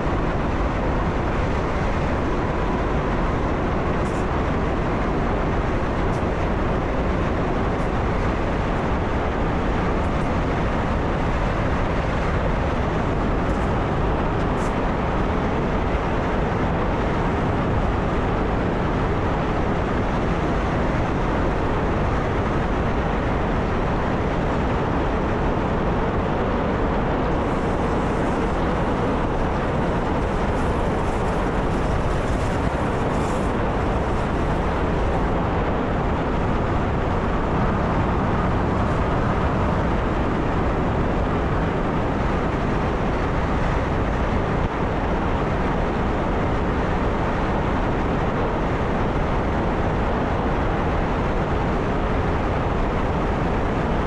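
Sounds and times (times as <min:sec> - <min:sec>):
train running on track: 0:00.0 - 0:54.0.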